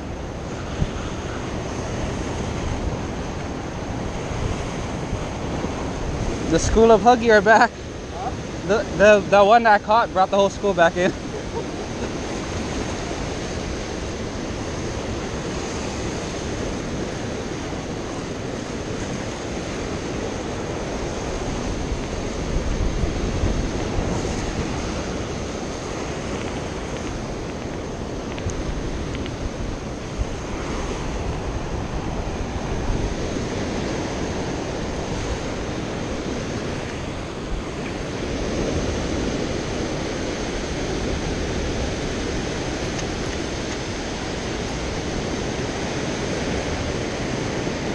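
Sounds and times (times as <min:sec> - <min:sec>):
surf breaking on rocks: 0:00.0 - 0:47.9
wind buffeting microphone: 0:00.0 - 0:47.9.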